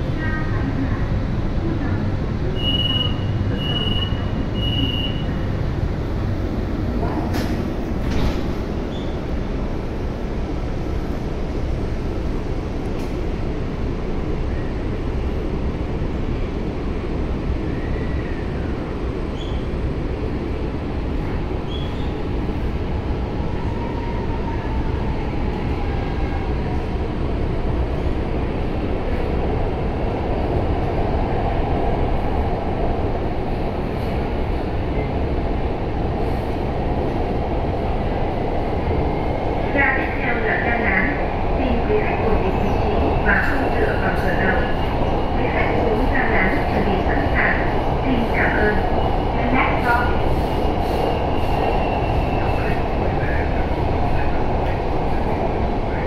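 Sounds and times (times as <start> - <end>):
train car rumble and hum: 0.0 - 56.0.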